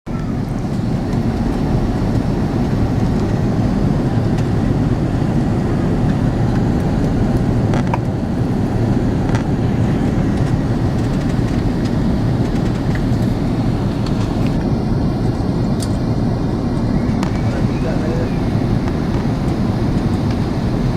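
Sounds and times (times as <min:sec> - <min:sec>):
airliner cabin rumble: 0:00.1 - 0:20.9.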